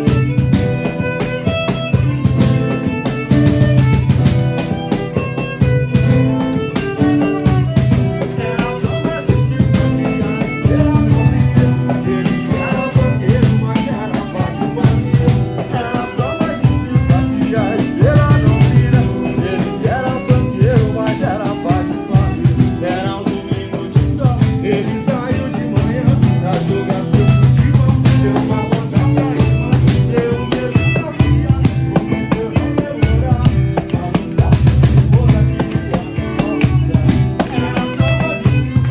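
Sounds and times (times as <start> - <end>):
live band playing: 0.0 - 38.9.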